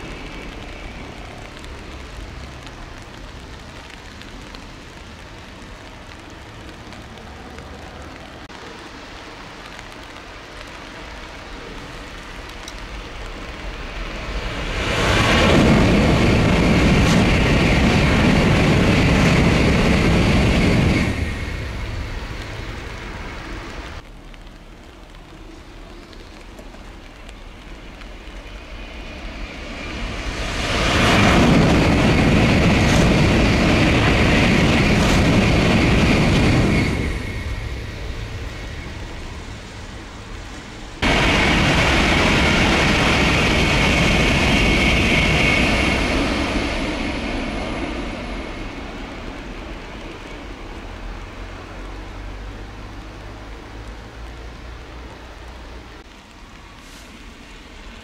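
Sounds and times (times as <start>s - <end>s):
high-speed trains passing: 0.0s - 58.0s.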